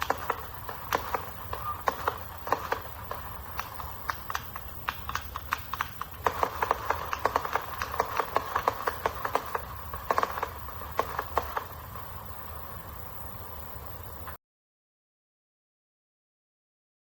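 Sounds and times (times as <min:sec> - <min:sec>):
firework crackling pops: 0:00.0 - 0:14.4.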